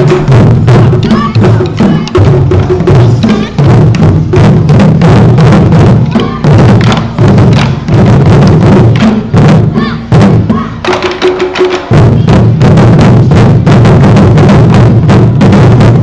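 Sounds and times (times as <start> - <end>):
taiko drums drumming: 0.0 - 16.0.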